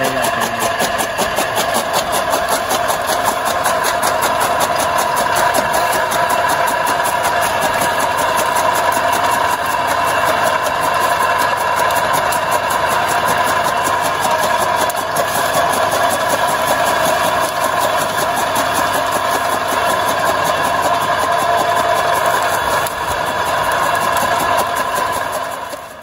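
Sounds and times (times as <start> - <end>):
chaff cutter machine drone: 0.0 - 26.0.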